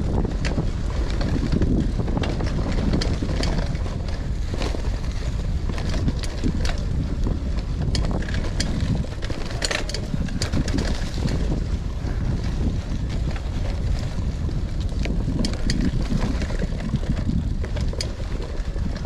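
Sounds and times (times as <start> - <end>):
bike rattling: 0.0 - 19.0
bike tyres rolling on dirt: 0.0 - 19.0
wind buffeting microphone: 0.0 - 19.0.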